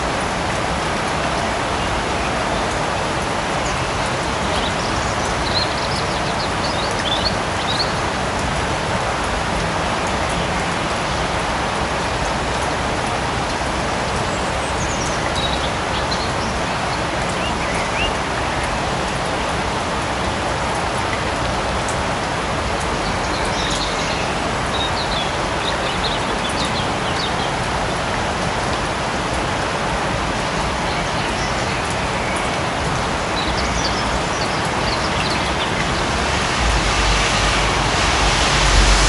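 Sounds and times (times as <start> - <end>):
light rain falling: 0.0 - 39.0.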